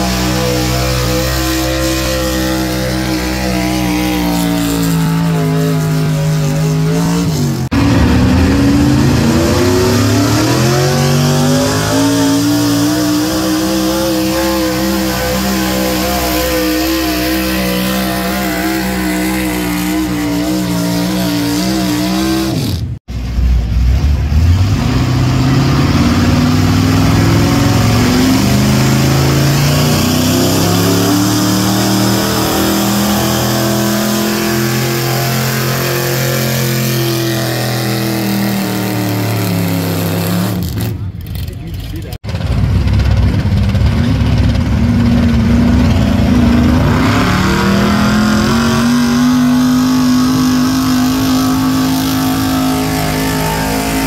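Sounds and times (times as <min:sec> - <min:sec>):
truck engine at full throttle: 0:00.0 - 0:54.0.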